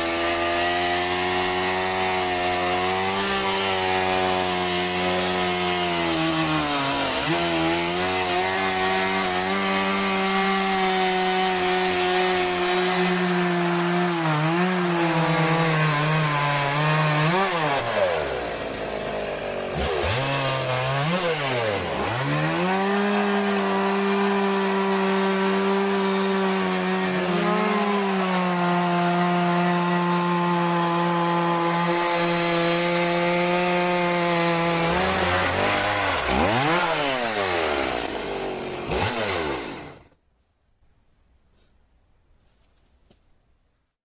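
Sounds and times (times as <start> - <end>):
chainsaw cutting a log: 0.0 - 40.2.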